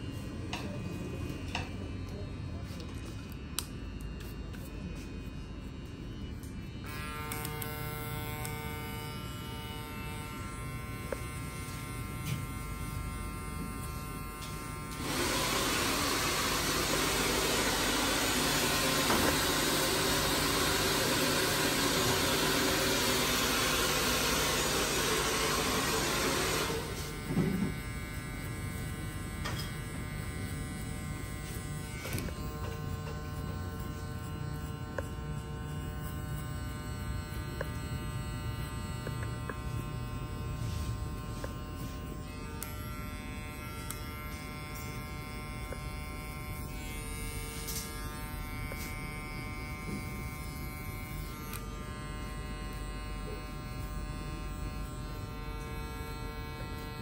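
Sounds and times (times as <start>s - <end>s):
electric hair clipper buzzing: 0.0s - 57.0s.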